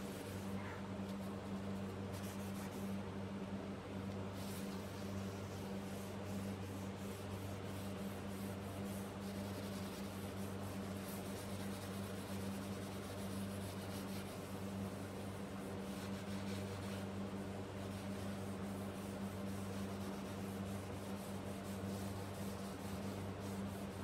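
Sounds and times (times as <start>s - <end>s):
steady low hum: 0.0s - 24.0s
steel wool scrubbing wood: 4.4s - 24.0s.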